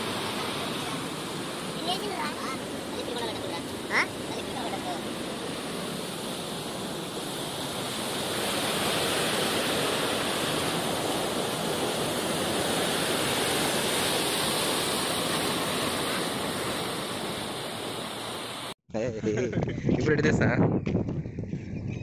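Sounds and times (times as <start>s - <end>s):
floodwater rushing: 0.0s - 18.8s.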